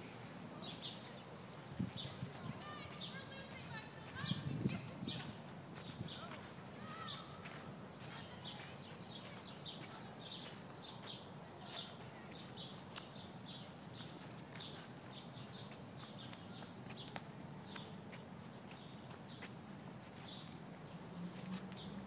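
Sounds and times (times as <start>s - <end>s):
footsteps on grass and dirt: 0.0s - 22.0s.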